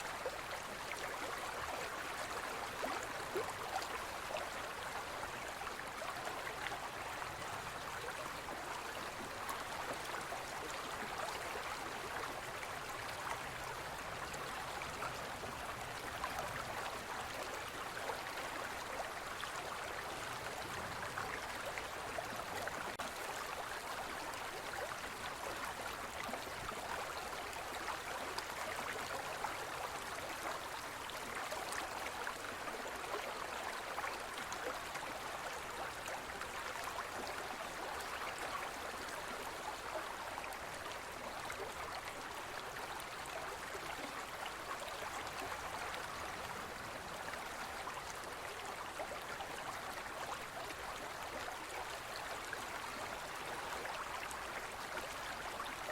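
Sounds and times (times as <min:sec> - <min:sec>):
forest stream flowing: 0:00.0 - 0:55.9.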